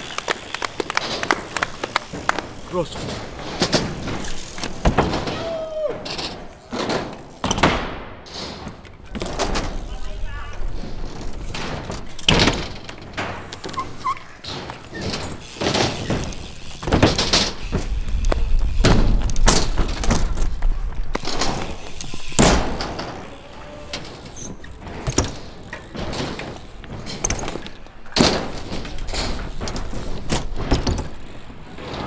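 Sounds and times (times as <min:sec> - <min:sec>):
bike tyres rolling on concrete: 0:00.0 - 0:32.0
bike landing thuds and clanks: 0:00.4 - 0:09.9, 0:10.6 - 0:32.0.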